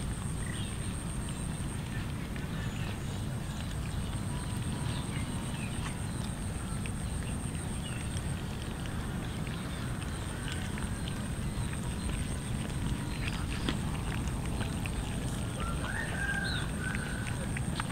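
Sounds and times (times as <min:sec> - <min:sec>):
cats chewing and lapping: 0:00.0 - 0:17.9
steady low rumble: 0:00.0 - 0:17.9.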